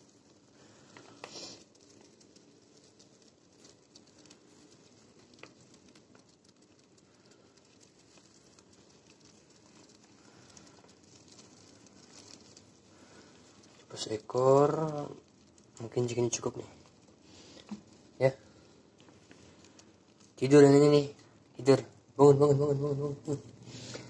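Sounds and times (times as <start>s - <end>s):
hamsters rustling and nibbling: 0.0s - 24.0s.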